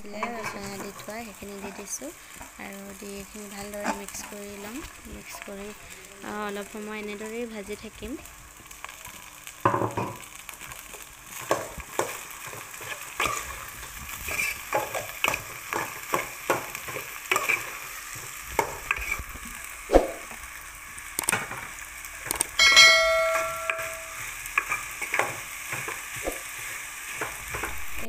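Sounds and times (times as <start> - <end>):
rice sizzling: 0.0 - 28.0.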